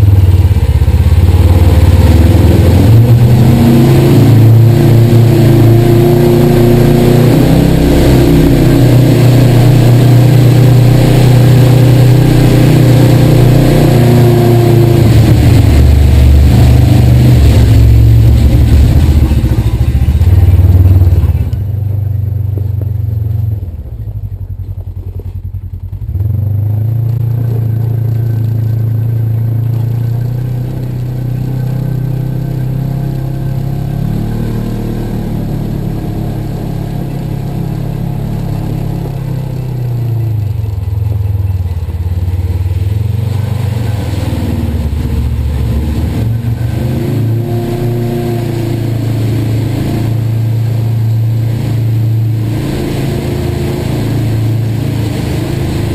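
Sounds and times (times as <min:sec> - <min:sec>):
off-road vehicle engine running: 0:00.0 - 0:55.9.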